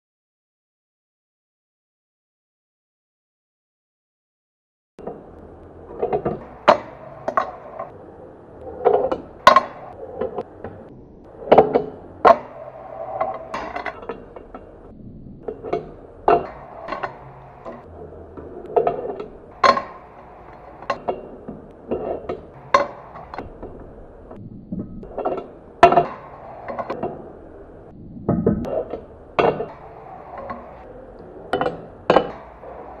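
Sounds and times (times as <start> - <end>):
fingerboard wheels rolling on wood: 5.0 - 33.0.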